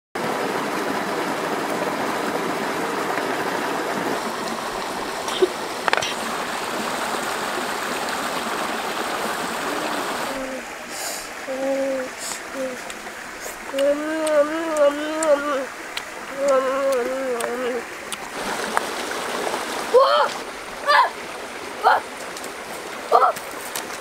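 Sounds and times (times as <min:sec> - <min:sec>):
river running over rocks: 0:00.2 - 0:24.0.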